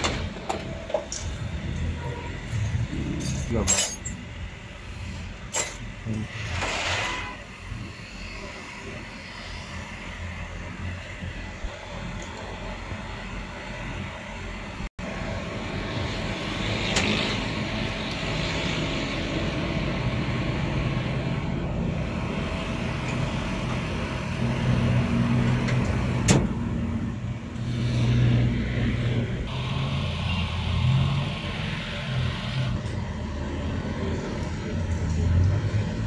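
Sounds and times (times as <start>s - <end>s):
vehicle engine hum: 0.0s - 36.0s.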